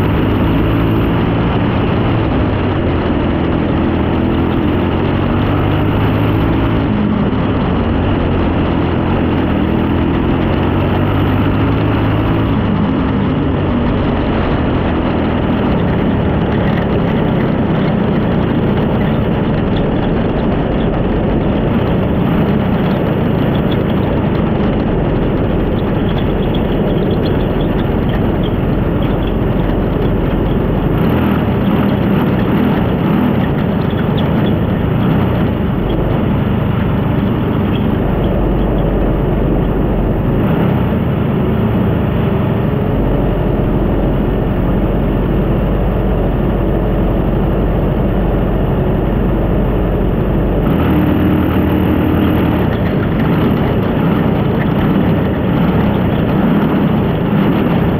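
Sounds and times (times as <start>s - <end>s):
race car engine running: 0.0s - 57.9s.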